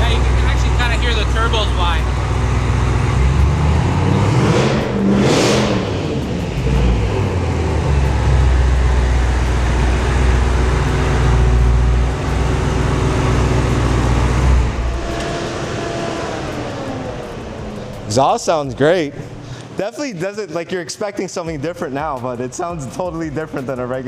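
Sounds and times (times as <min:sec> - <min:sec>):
car engine revving and idling: 0:00.0 - 0:19.8.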